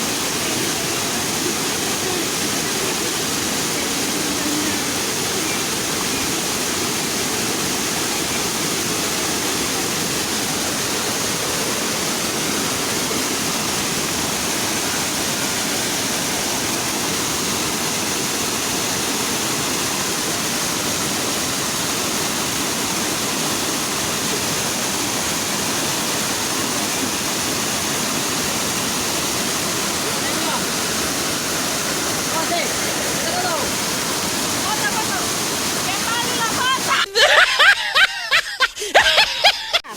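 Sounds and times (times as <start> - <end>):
waterfall roaring: 0.0 - 37.1.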